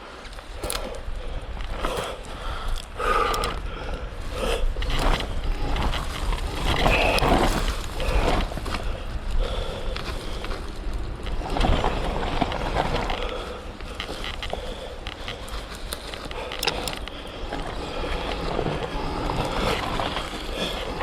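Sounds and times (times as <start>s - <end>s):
chain and chassis rattle: 0.0s - 3.6s, 4.2s - 9.1s, 10.3s - 21.0s.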